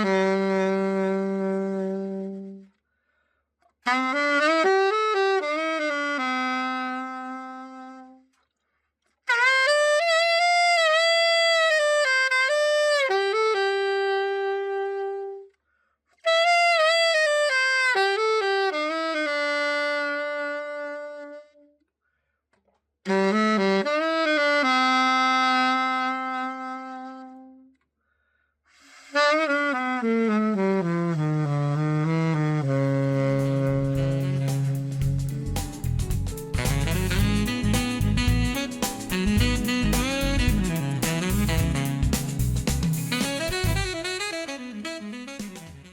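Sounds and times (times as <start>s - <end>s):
alto saxophone melody: 0.0s - 2.8s, 3.7s - 8.5s, 9.1s - 15.6s, 16.2s - 21.8s, 23.0s - 27.8s, 28.7s - 45.9s.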